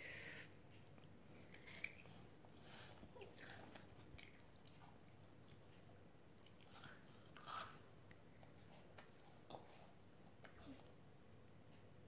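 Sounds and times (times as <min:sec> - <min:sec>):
child chewing ice cream bar: 0:00.3 - 0:10.9.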